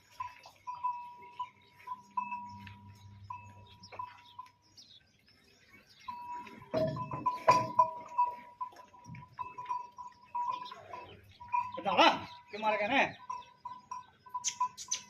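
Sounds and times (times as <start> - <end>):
small metal bell ringing: 0.2 - 3.8, 6.1 - 15.0.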